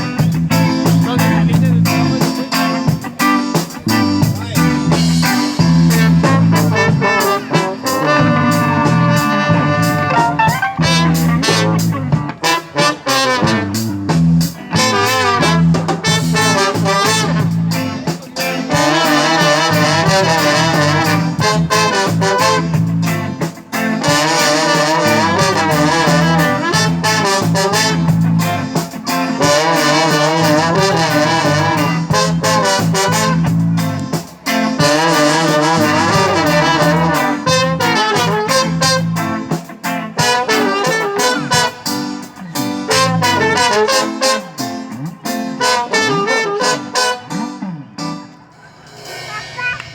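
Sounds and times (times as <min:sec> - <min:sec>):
bass beat: 0:00.0 - 0:12.4, 0:13.0 - 0:45.2, 0:48.6 - 0:49.9
horn section melody: 0:00.0 - 0:49.8
live band playing: 0:00.0 - 0:49.9.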